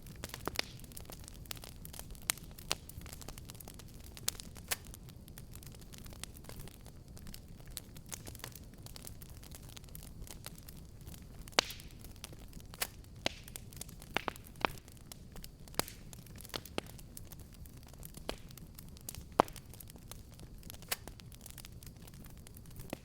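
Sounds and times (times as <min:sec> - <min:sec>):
fire crackling and popping: 0:00.0 - 0:23.0
low rumble of burning: 0:00.0 - 0:23.0.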